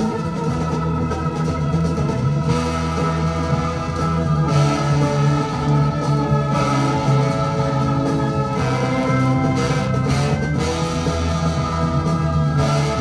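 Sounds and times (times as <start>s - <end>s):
bass and guitar: 0.0s - 13.0s
organ chords: 0.0s - 13.0s.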